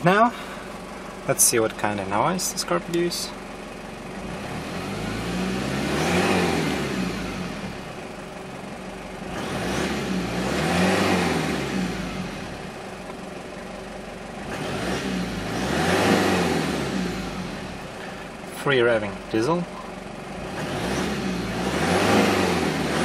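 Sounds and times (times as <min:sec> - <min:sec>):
diesel engine revving: 0:00.0 - 0:23.0.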